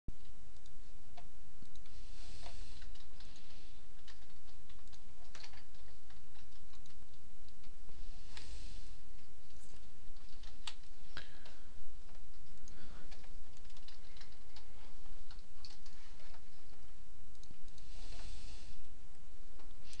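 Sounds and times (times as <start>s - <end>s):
steady low hum: 0.1s - 20.0s
soft rustles: 1.9s - 20.0s.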